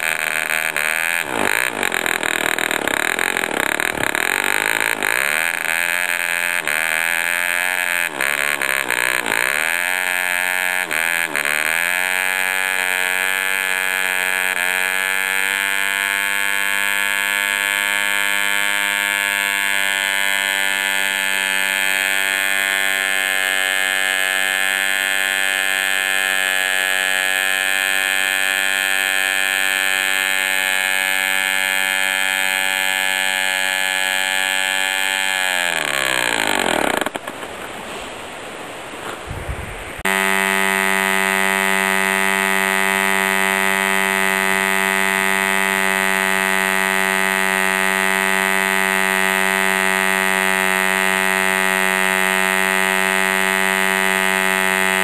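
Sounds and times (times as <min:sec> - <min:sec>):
engine winding down: 0:00.0 - 0:37.6, 0:40.0 - 0:55.0
model aircraft engine droning: 0:00.0 - 0:37.8, 0:40.0 - 0:55.0.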